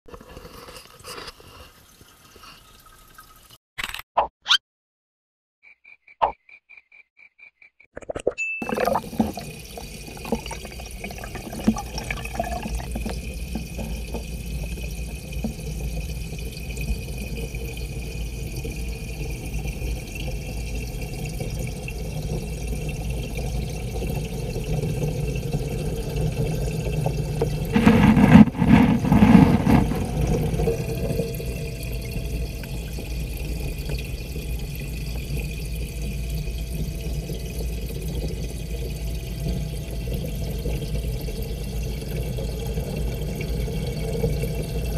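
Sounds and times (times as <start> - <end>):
water churning: 8.6 - 44.9
muffled rumble of moving water: 8.7 - 44.9.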